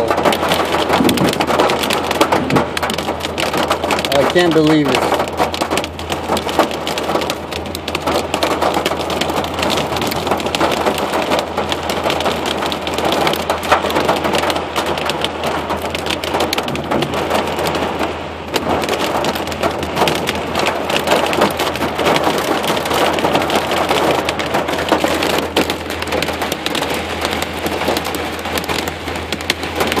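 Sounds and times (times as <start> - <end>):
rain and hail drumming on roof: 0.0 - 30.0.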